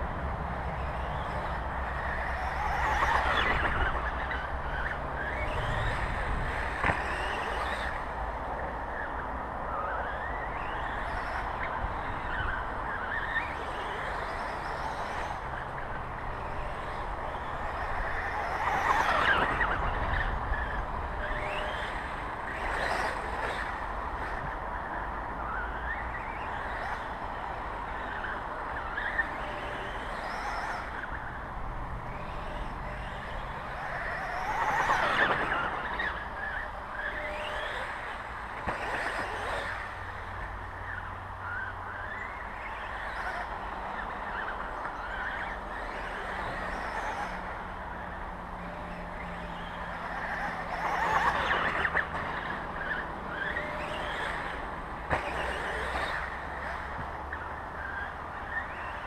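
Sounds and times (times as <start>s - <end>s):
toy motorbike motor whining: 0.0s - 59.0s.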